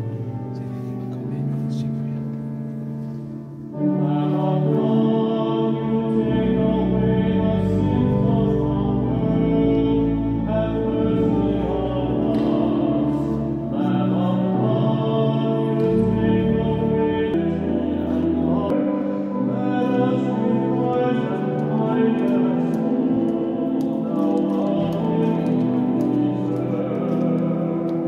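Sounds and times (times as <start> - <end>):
church music with singing: 0.0 - 28.0.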